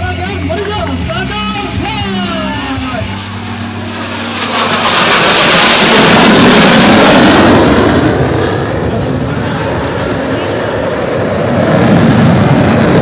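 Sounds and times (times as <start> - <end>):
fighter jets roaring past: 0.0 - 13.0.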